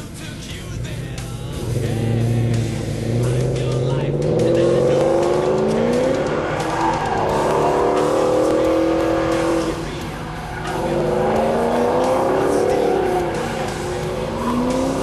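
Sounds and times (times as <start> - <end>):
car engine revving: 0.0 - 15.0
tyres squealing: 1.6 - 15.0.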